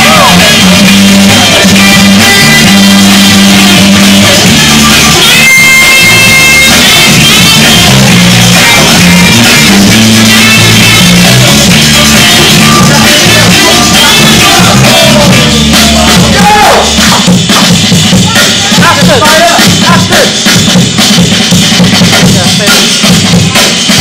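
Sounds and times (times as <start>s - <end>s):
loud music with bass line: 0.0s - 24.0s.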